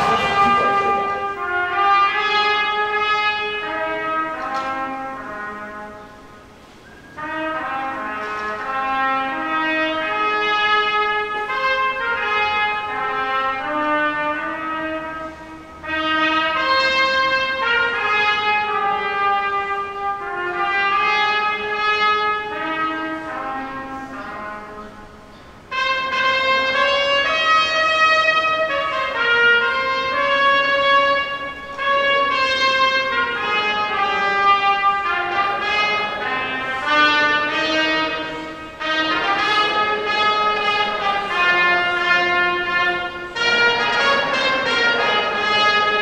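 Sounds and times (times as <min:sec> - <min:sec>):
slow brass melody: 0:00.0 - 0:46.0.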